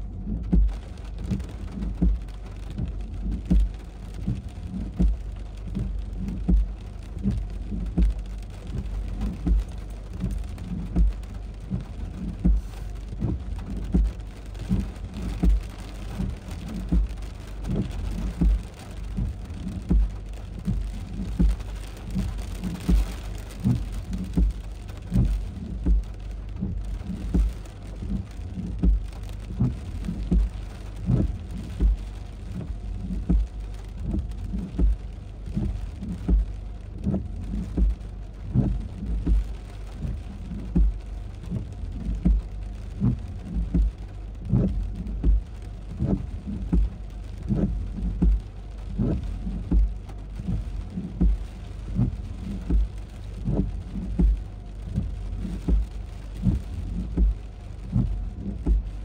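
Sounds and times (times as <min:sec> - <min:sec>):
heavy rain falling: 0:00.0 - 0:59.0
large raindrops thudding: 0:00.0 - 0:59.0.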